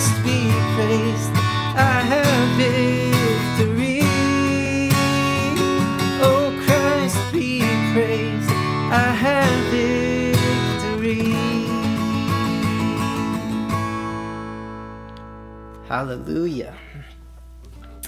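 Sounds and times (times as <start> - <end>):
wordless sung melody: 0.0 - 16.5
acoustic guitar strumming: 0.0 - 18.0.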